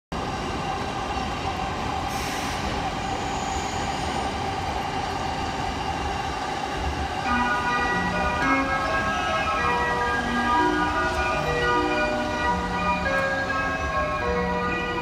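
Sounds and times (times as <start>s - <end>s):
electric train hum: 0.2s - 15.0s.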